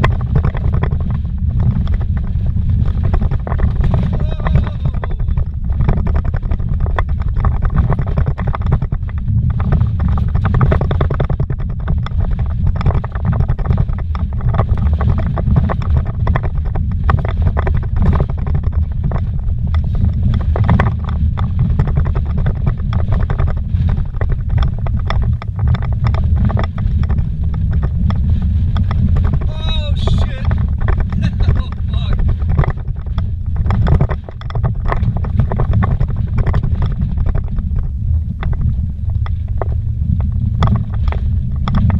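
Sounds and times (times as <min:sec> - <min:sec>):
car engine and tyres rumbling: 0:00.0 - 0:41.9
knocks and rattles: 0:00.0 - 0:41.9.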